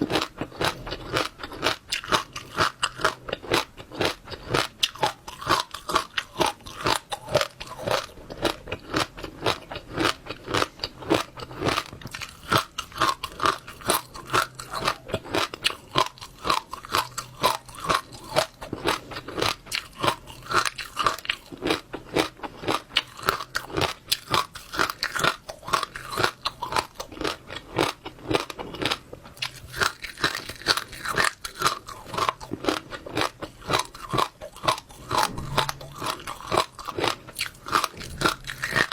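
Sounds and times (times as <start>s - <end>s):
chewing crunchy seeds: 0.0s - 38.9s.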